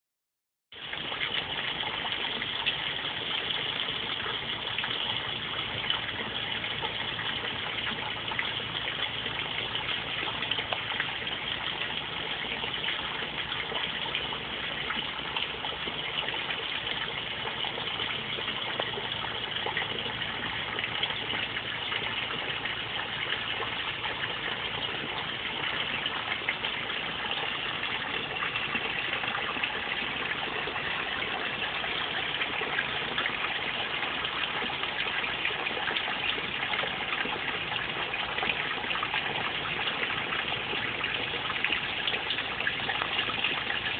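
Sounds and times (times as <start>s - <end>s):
water splashing into pond: 0.7s - 43.9s.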